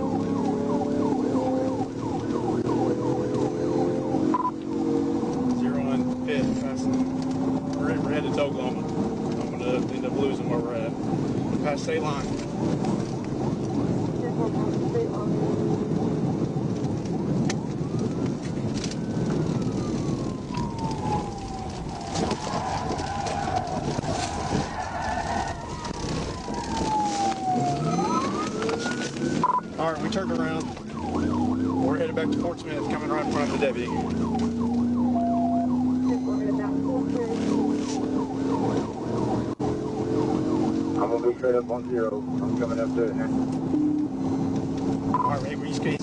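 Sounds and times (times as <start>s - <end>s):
police siren: 0.0s - 46.0s
road and engine noise: 0.0s - 46.0s.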